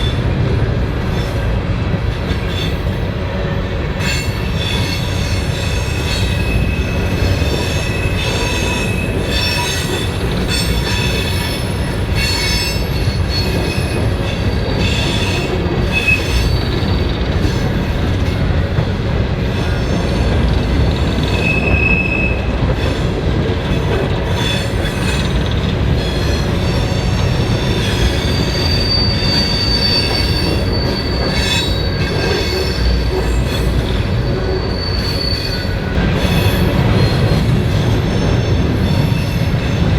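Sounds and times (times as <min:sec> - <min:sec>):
train cars rumbling: 0:00.0 - 0:39.9
train wheels squealing: 0:02.3 - 0:18.5, 0:19.4 - 0:39.9.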